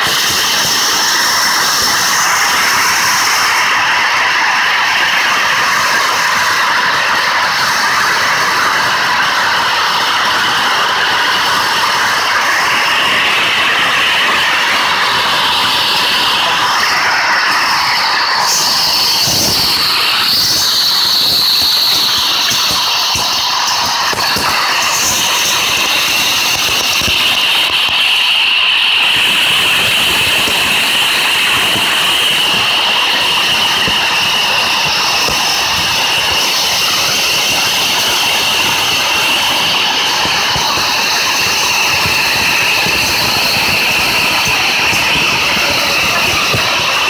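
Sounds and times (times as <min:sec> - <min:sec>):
loud steady rushing noise: 0:00.0 - 0:47.0.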